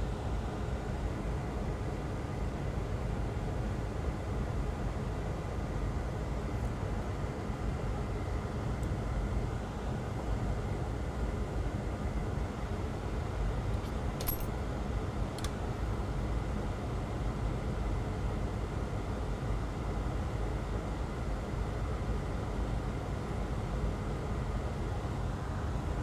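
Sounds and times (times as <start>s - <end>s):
low rumbling background noise: 0.0s - 26.0s.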